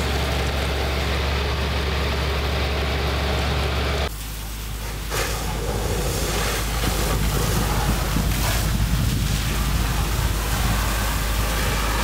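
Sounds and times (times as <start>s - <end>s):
continuous low rumble: 0.0s - 12.0s
fire hose hissing: 0.0s - 12.0s.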